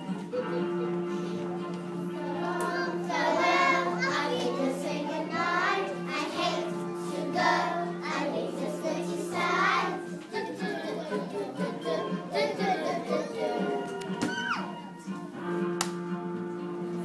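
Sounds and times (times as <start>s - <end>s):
young children singing: 1.4s - 15.1s.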